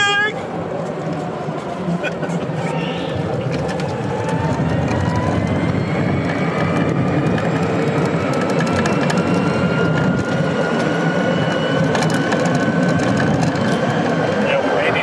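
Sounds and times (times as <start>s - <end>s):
golf cart driving on pavement: 0.0s - 15.0s
wind noise: 0.0s - 15.0s.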